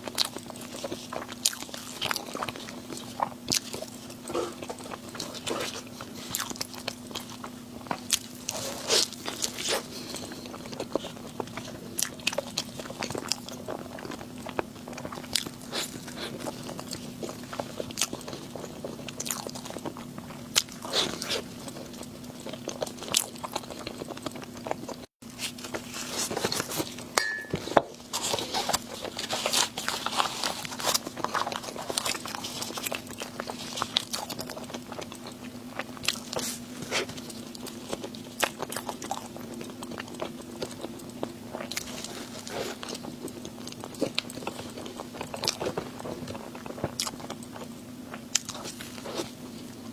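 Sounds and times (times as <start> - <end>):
person chewing crunchy food: 0.0 - 49.9
steady low hum: 0.0 - 49.9.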